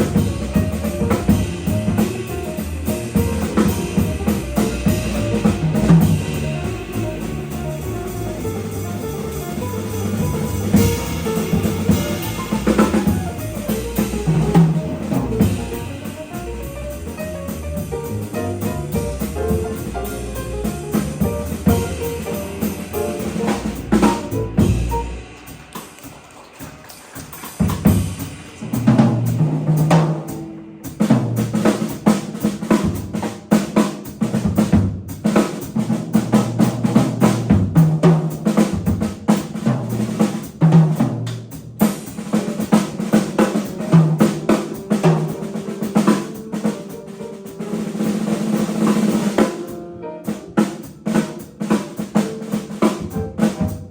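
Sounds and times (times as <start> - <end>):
drum kit solo: 0.0 - 53.9
jazz band playing: 0.0 - 53.9.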